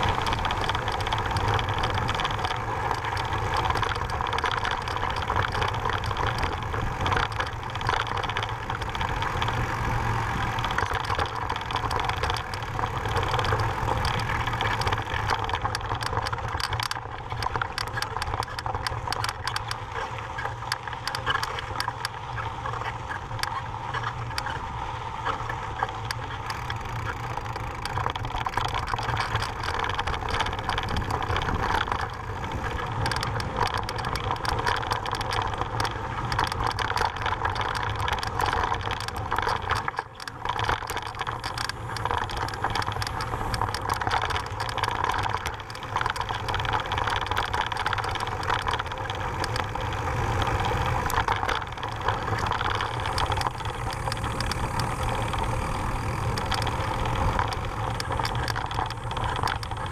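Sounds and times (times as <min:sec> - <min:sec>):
bike clicking and rattling: 0:00.0 - 0:59.9.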